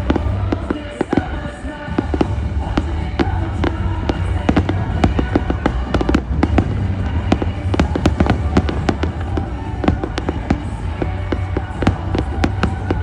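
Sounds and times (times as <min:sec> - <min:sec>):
fireworks bangs and crackles: 0:00.0 - 0:13.0
loud music: 0:00.0 - 0:13.0.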